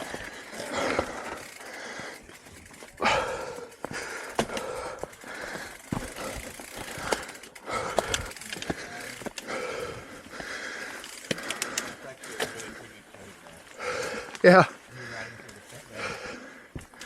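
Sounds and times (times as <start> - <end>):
bike clicks and rattles: 0.0 - 17.0
person breathing hard: 0.0 - 17.0.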